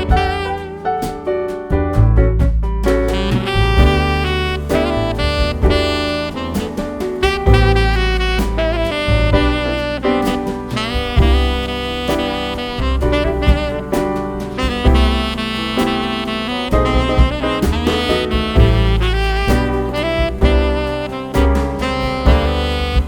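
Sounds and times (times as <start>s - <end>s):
saxophone lead: 0.0s - 1.6s, 3.0s - 23.0s
jazz drums and bass: 0.0s - 23.0s.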